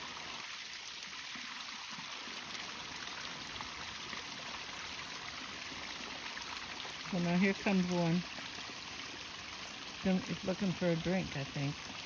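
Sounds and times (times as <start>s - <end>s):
waterfall splashing into stream: 0.0s - 12.0s.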